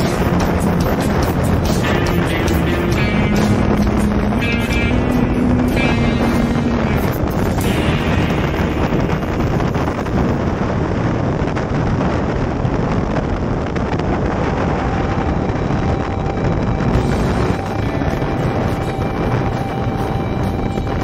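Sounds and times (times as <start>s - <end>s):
motorcycle running: 0.0s - 21.0s
wind buffeting microphone: 0.0s - 21.0s.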